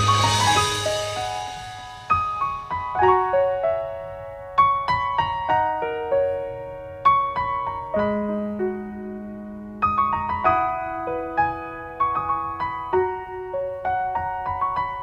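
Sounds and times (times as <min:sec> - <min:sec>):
slow piano melody over chords: 0:00.0 - 0:15.0.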